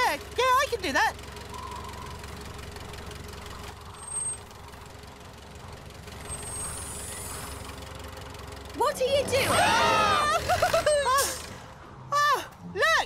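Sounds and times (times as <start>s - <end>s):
engine idling low rumble: 0.0s - 12.5s.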